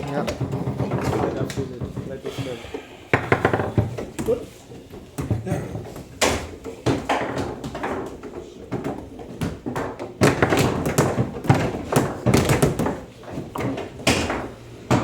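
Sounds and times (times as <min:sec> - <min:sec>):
foosball ball knocking: 0:00.0 - 0:02.2, 0:03.1 - 0:15.0.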